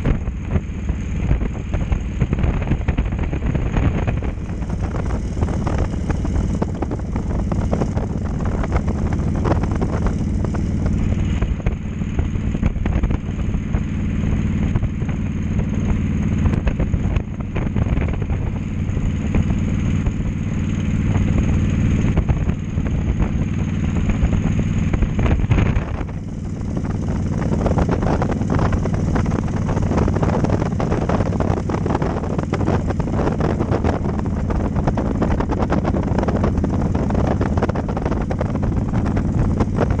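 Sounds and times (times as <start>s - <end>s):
motorcycle engine running: 0.0s - 40.0s
wind on microphone: 0.0s - 40.0s.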